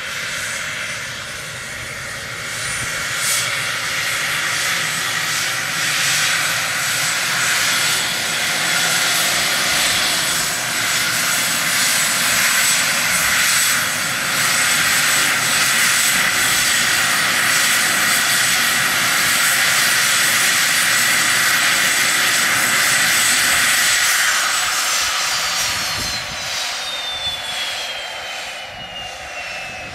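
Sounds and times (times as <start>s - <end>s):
jet engines rumbling and whining: 0.0s - 29.9s.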